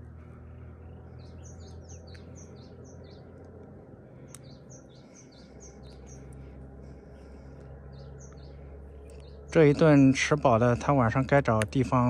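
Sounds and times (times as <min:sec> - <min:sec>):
birds chirping: 0:00.0 - 0:12.0
low background hum: 0:00.0 - 0:12.0.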